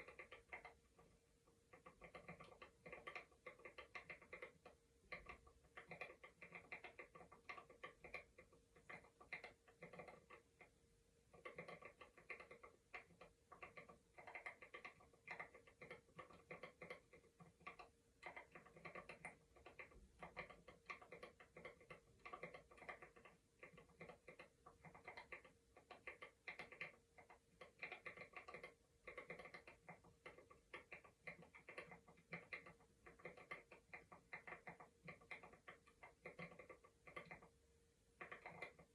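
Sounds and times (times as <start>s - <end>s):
faint steady hum: 0.0s - 38.9s
keyboard typing: 0.0s - 38.9s.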